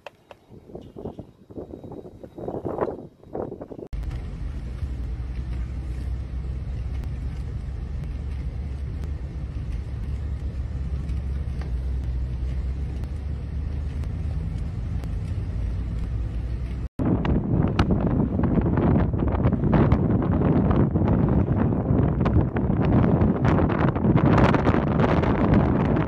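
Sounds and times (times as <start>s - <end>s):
vehicle rumbling on snowy road: 0.0s - 26.0s.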